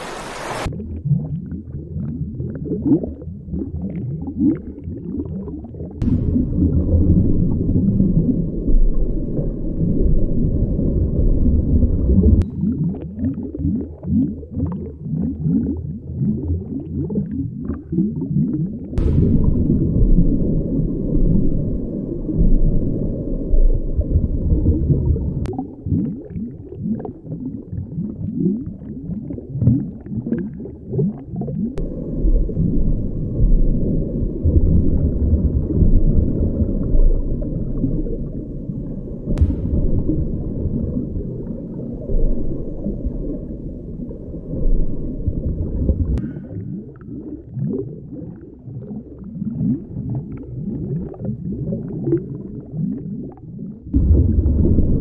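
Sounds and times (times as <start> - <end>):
bubbling and gurgling: 0.0 - 55.0
underwater water rumble: 0.0 - 55.0.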